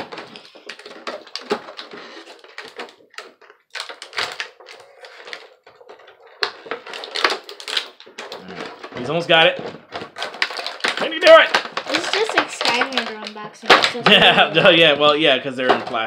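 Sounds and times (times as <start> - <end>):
plastic packaging crinkling: 0.0 - 15.2.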